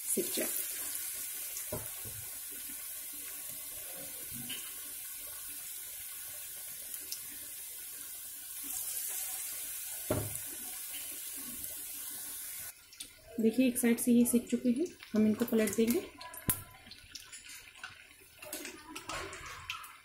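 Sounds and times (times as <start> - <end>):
deep-frying in hot oil: 0.0 - 20.0.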